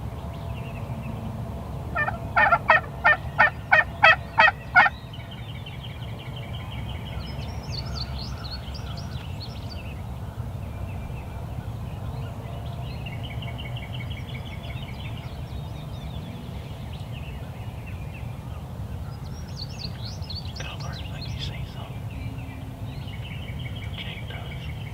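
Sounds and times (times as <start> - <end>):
low rumble of wind: 0.0 - 24.9.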